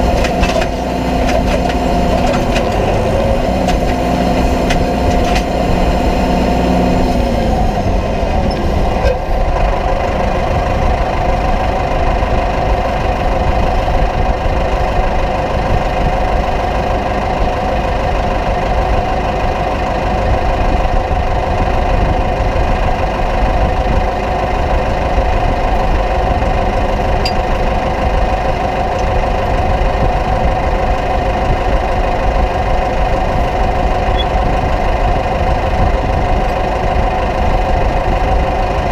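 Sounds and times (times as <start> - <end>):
constant whine: 0.0 - 38.9
tractor diesel engine running: 0.0 - 38.9.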